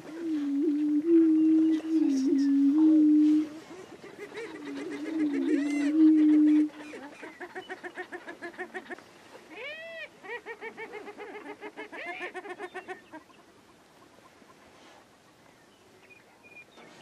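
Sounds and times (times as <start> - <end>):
prairie-chickens cackling: 0.0 - 14.7.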